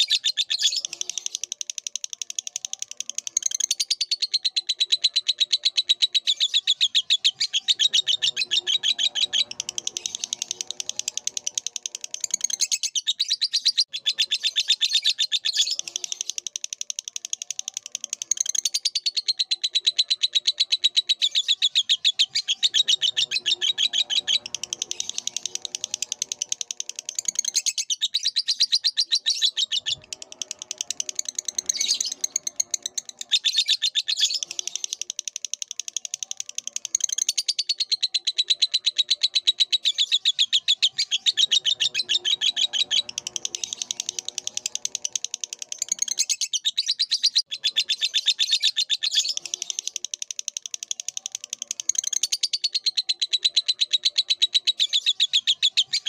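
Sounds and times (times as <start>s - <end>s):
bird chattering trill: 0.0s - 56.0s.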